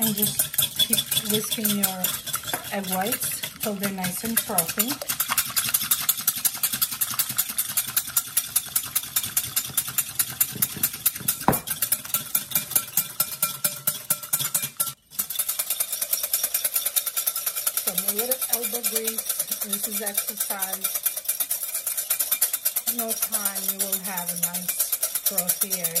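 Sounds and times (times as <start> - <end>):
whisk beating in glass bowl: 0.0 - 26.0.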